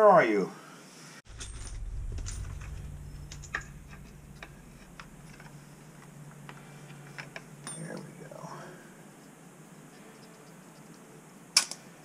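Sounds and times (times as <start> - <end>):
low steady hum: 1.3 - 11.5.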